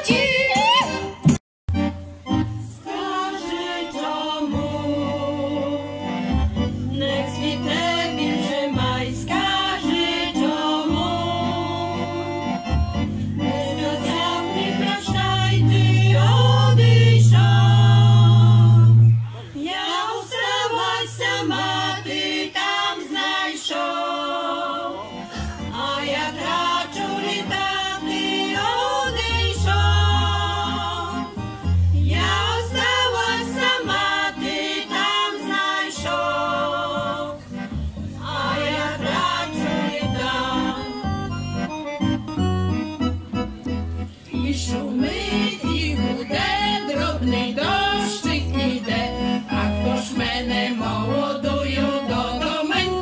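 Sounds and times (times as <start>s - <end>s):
women singing in harmony: 0.0s - 1.1s, 2.8s - 6.3s, 6.9s - 12.6s, 13.4s - 37.6s, 38.2s - 41.3s, 44.3s - 53.0s
accordion bass notes: 0.0s - 53.0s.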